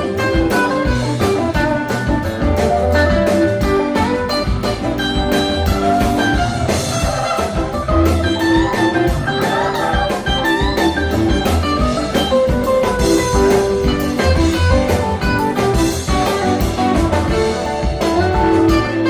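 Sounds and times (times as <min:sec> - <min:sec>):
bass guitar: 0:00.0 - 0:19.0
drum kit: 0:00.0 - 0:19.0
electric guitar lead: 0:00.0 - 0:19.0.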